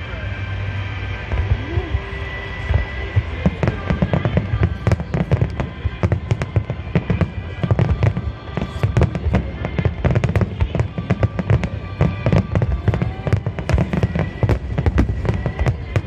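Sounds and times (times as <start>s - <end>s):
music playing: 0.0s - 16.0s
fireworks bursting and crackling: 0.8s - 16.0s.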